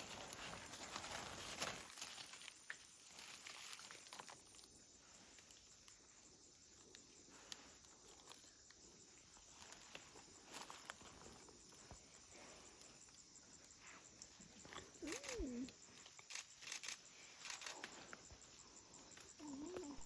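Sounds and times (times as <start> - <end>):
high insect drone: 0.0 - 20.0
rustles: 0.0 - 20.0.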